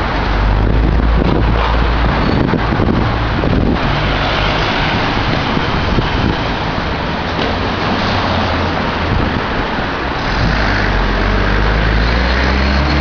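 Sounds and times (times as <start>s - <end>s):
loud rushing noise: 0.0s - 13.0s.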